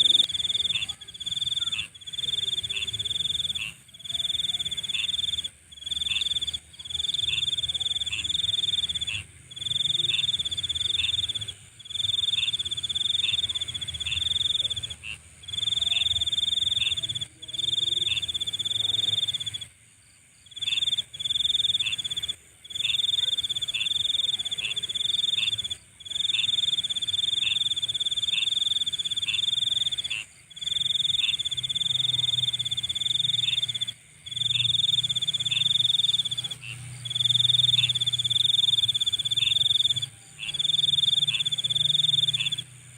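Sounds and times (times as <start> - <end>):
insect trilling: 0.0 - 19.7, 20.4 - 42.8.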